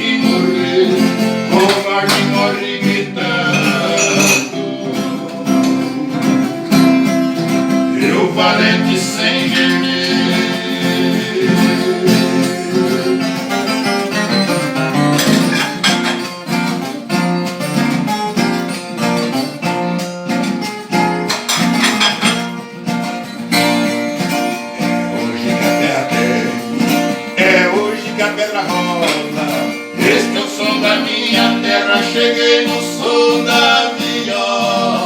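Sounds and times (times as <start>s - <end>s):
guitar picked runs: 0.0s - 35.0s
strummed guitar chords: 0.0s - 35.0s.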